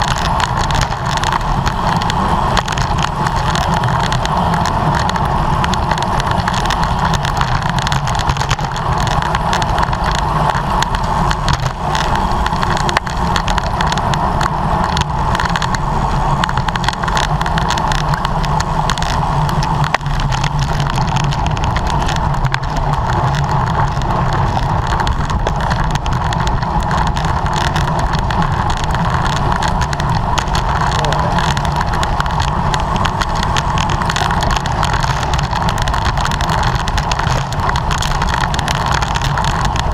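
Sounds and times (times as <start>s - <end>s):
bicycle tyre noise on road: 0.0s - 39.9s.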